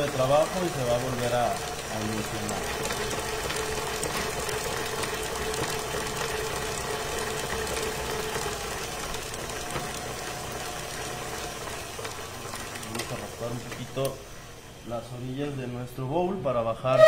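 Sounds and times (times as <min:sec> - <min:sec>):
stand mixer humming: 0:00.0 - 0:17.0.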